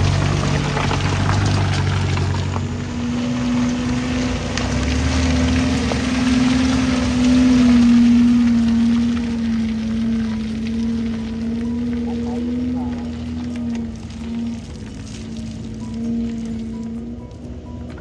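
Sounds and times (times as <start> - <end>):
mud and water washing: 0.0 - 18.0
off-road engine running hard: 0.0 - 18.0.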